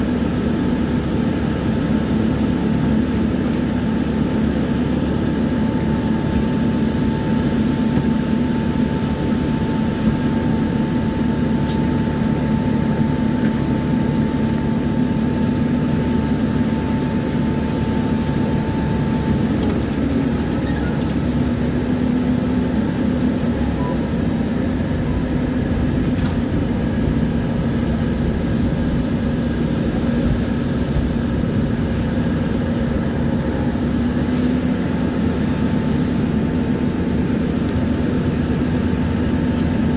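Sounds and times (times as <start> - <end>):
traction equipment hum: 0.0 - 39.9
tram wheels rumbling on rails: 0.0 - 39.9.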